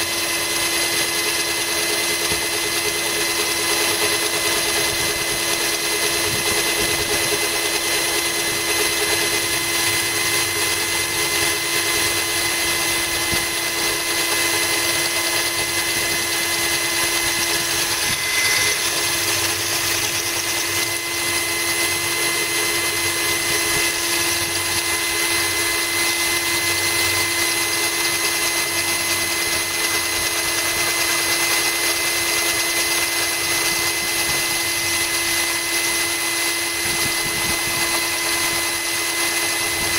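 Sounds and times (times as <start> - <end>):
drill grinding into glass: 0.0 - 39.9.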